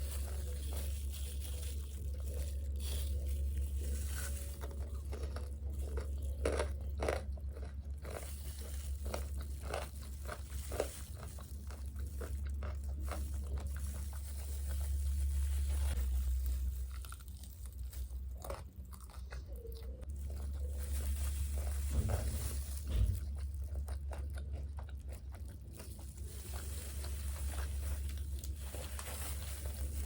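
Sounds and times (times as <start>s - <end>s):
crunchy chewing of fried food: 0.0s - 30.0s
steady low hum: 0.0s - 30.0s.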